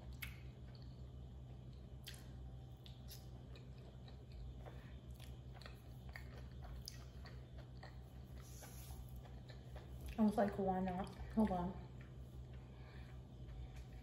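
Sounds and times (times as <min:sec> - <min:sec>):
chewing pasta: 0:00.0 - 0:14.0
faint low hum: 0:00.0 - 0:14.0.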